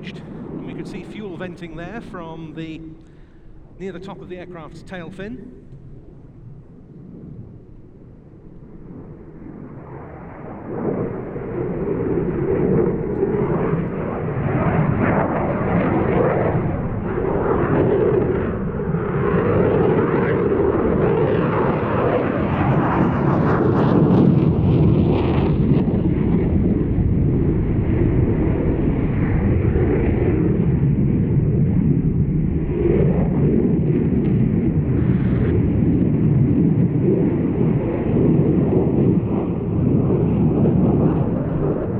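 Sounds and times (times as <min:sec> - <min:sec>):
jet engine noise: 0:00.0 - 0:41.9.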